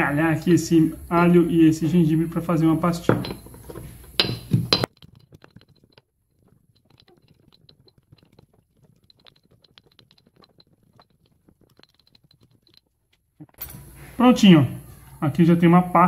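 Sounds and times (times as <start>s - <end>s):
pestle crushing in stone mortar: 0.1s - 14.2s.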